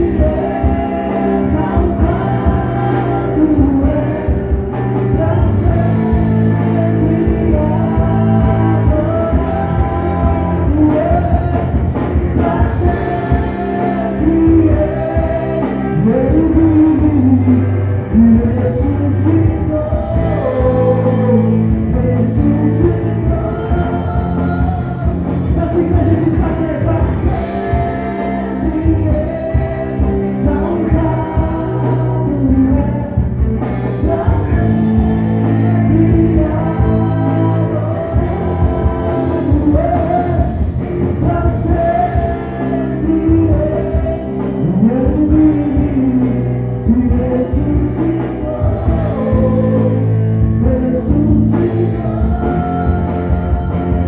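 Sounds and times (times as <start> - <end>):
bass guitar: 0.0 - 54.0
drums keeping steady beat: 0.0 - 54.0
electric guitar: 0.0 - 54.0
person singing: 0.0 - 54.0.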